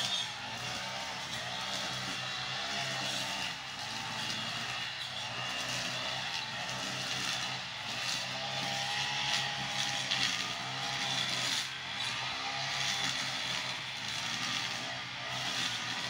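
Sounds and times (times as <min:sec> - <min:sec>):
brush cutter engine: 0:00.0 - 0:16.0.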